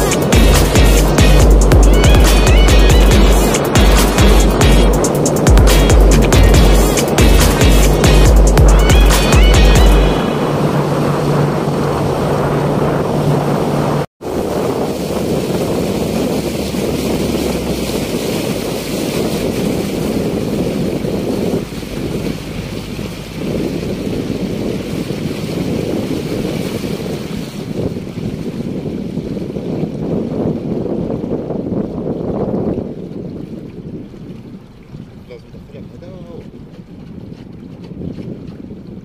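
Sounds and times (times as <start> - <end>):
water rushing past boat: 0.0 - 39.0
wind on microphone: 0.0 - 39.0.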